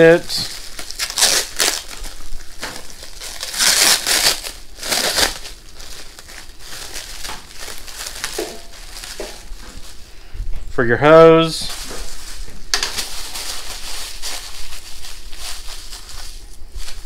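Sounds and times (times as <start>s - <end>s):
plastic bag crinkling: 0.0s - 10.1s, 11.6s - 17.0s.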